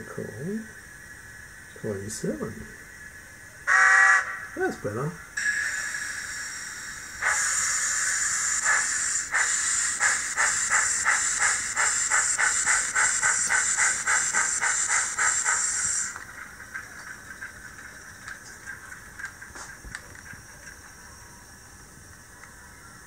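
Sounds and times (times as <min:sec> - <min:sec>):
model steam locomotive chuffing: 0:03.7 - 0:22.2.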